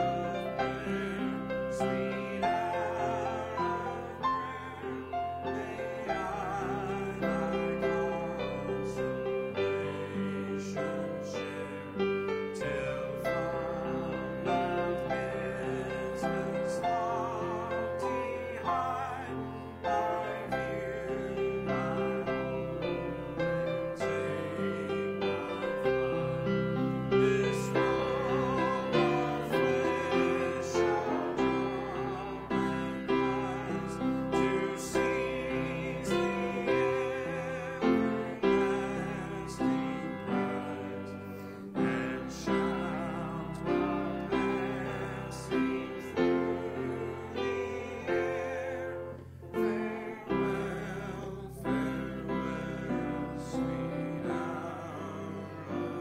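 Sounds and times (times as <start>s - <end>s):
piano chords: 0.0s - 56.0s
voices singing a hymn: 0.0s - 56.0s.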